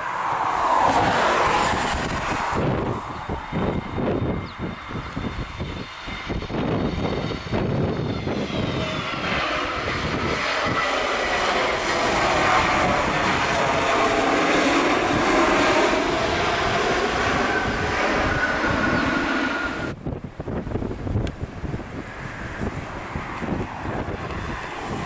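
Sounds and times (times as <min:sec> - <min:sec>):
airliner engines whining: 0:00.0 - 0:25.0
wind buffeting microphone: 0:00.0 - 0:25.0.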